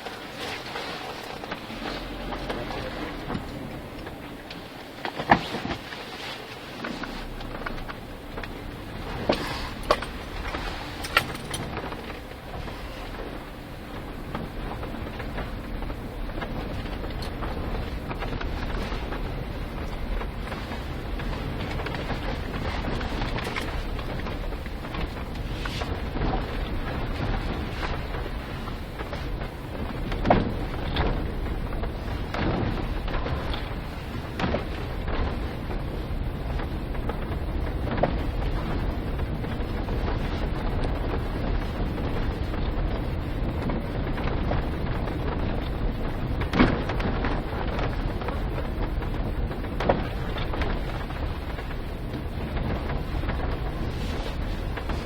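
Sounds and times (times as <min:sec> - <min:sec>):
car road rumble: 0:00.0 - 0:55.0
suspension knocking: 0:06.9 - 0:55.0.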